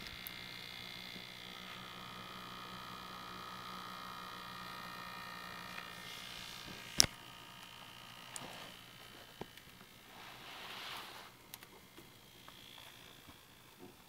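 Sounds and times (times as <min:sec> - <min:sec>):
laptop cooling fan whining: 0:00.0 - 0:14.0.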